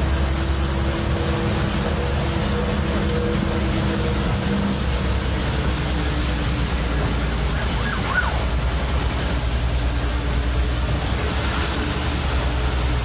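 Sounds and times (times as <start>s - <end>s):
truck engine rumble: 0.0s - 13.0s
wet road and rain noise: 0.0s - 13.0s.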